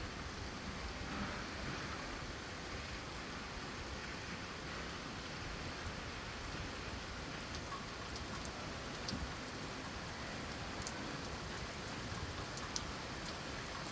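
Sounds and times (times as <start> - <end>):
steady rain hiss: 0.0 - 13.9.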